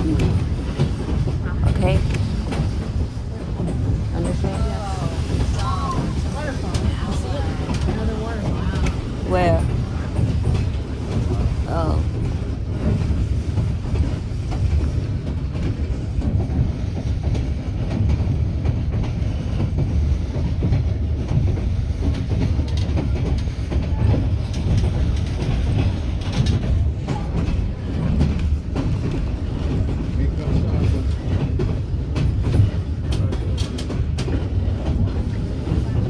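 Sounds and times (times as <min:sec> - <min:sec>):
train rumbling: 0:00.0 - 0:36.0
wheels clacking over rails: 0:00.0 - 0:36.0.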